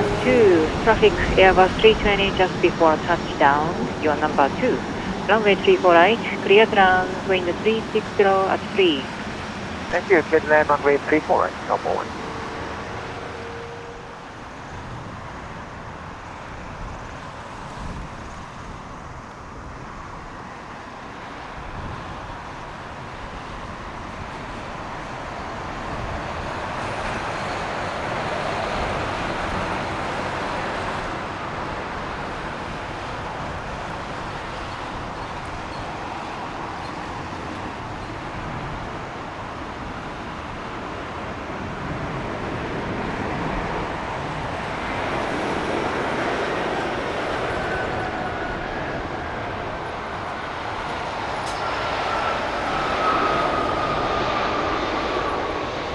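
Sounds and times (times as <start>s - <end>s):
jet airliner engine rush: 0.0s - 55.9s.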